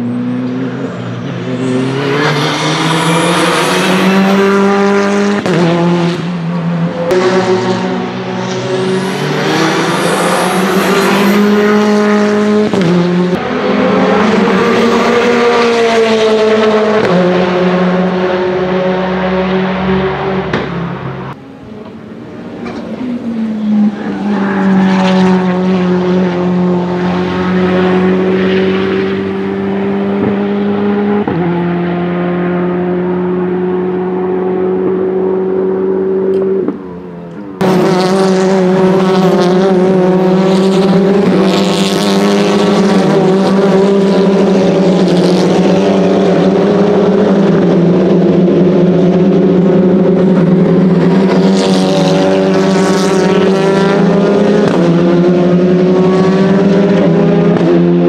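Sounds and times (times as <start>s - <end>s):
car pulling away at high revs: 0.0s - 21.4s, 22.8s - 58.0s
race car accelerating with upshifts: 0.0s - 58.0s.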